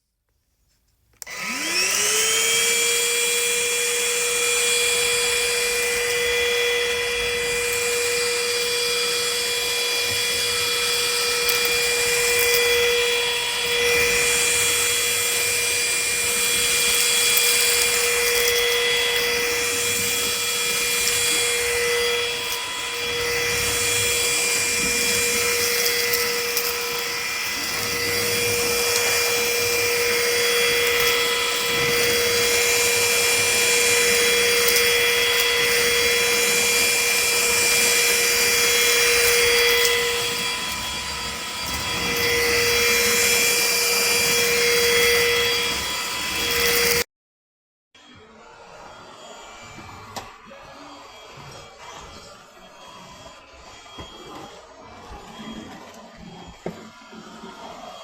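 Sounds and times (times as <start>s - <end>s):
stick vacuum motor whine: 1.2s - 47.1s, 48.0s - 58.0s.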